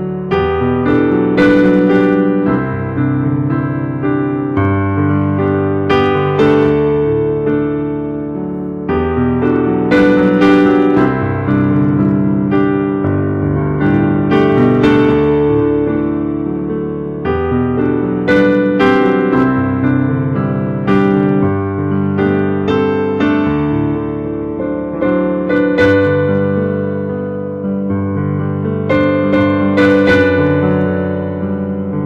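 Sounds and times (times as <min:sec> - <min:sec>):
slow piano chords: 0:00.0 - 0:32.0.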